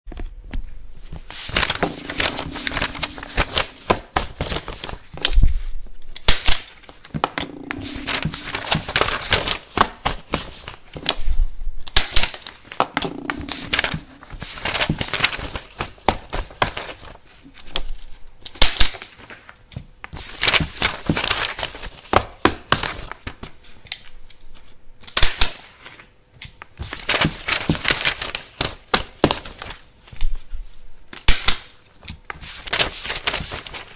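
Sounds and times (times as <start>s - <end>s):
paper rustling and crinkling: 1.0s - 11.4s, 13.5s - 18.2s, 20.2s - 24.8s, 25.6s - 30.9s, 31.8s - 33.9s.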